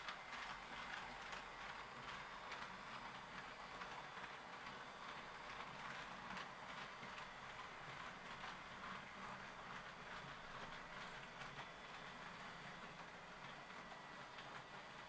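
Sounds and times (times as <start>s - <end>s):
model train whirring and clicking: 0.0s - 15.0s.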